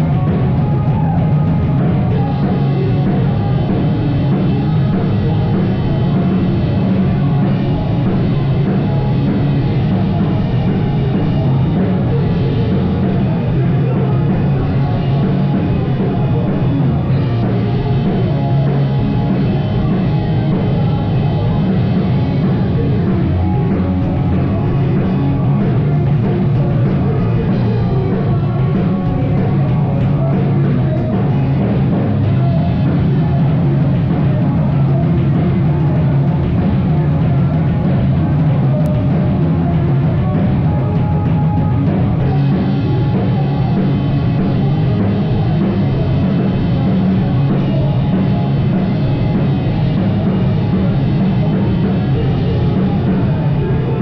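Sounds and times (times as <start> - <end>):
bass guitar: 0.0 - 54.0
distorted guitars: 0.0 - 54.0
drum kit: 0.0 - 54.0.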